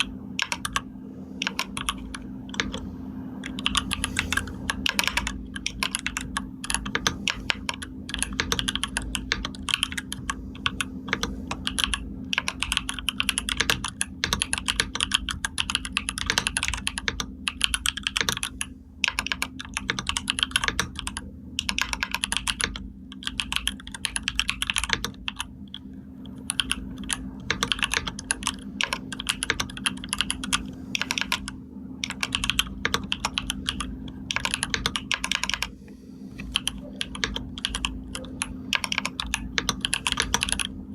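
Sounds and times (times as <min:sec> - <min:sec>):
typing on computer keyboard: 0:00.0 - 0:02.8, 0:03.4 - 0:35.7, 0:36.4 - 0:40.9.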